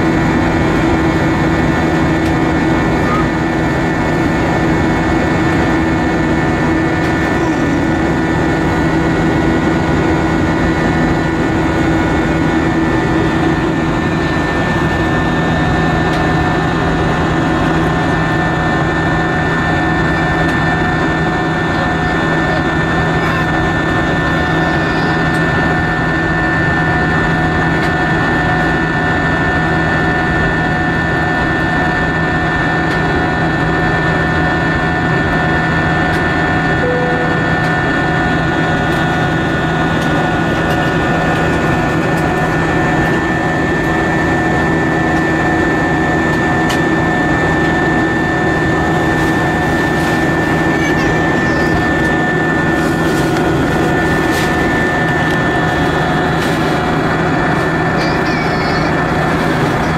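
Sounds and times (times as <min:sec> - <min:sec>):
airliner cabin engine drone: 0:00.0 - 0:59.9
steady hums: 0:00.0 - 0:59.9.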